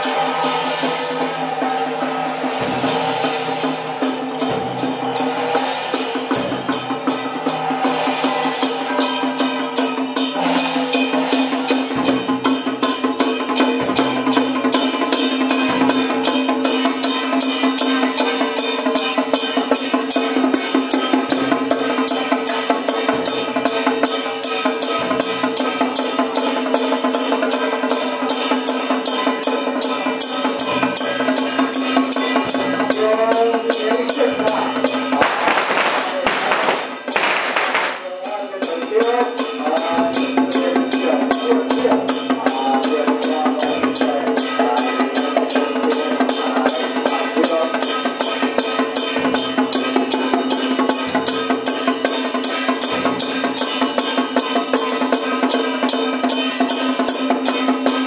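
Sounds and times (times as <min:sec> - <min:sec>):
drums beaten in fast rhythm: 0:00.0 - 0:58.0
gongs: 0:00.0 - 0:58.0.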